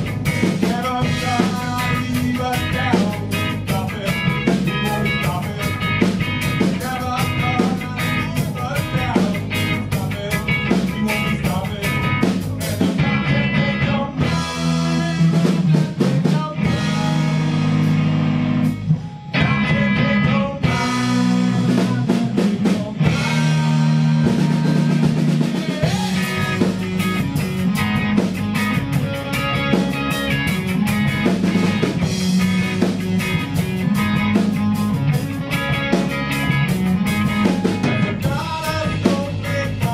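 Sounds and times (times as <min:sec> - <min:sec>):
band playing guitar and drums: 0:00.0 - 0:39.9.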